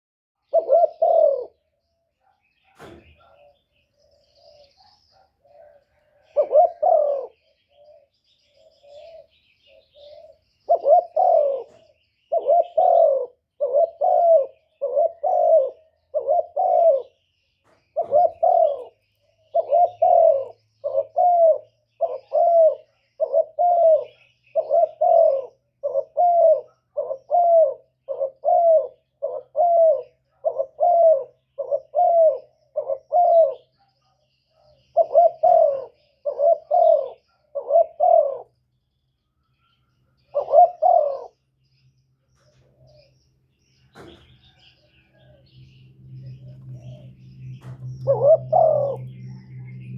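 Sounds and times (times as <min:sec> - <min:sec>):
dove cooing: 0:00.4 - 0:01.8, 0:02.6 - 0:38.6, 0:40.1 - 0:41.4, 0:43.9 - 0:49.9.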